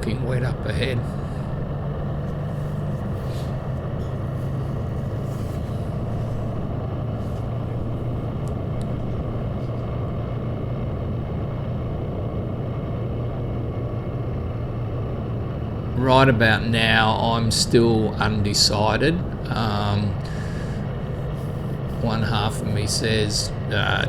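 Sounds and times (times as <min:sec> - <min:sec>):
motorcycle engine cruising: 0:00.0 - 0:24.0
wind and road noise: 0:00.0 - 0:24.0.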